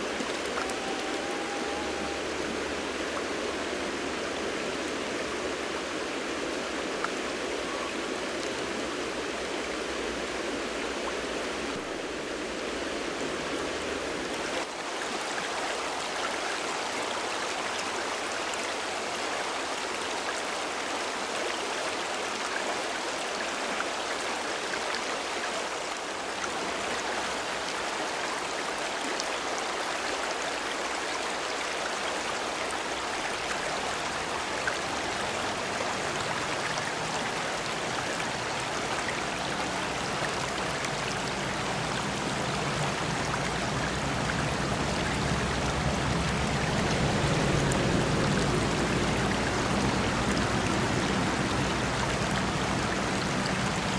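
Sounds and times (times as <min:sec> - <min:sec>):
river flowing over stones: 0:00.0 - 0:53.9.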